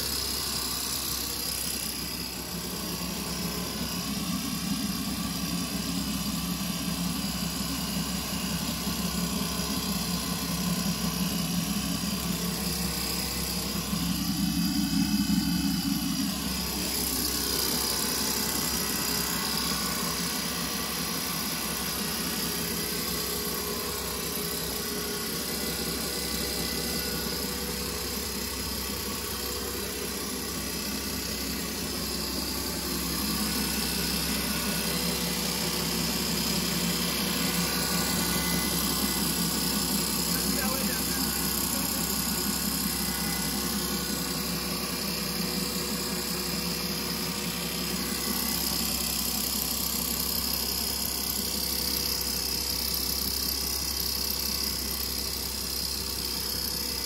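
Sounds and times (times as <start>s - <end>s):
extruder machine running: 0.0s - 57.0s.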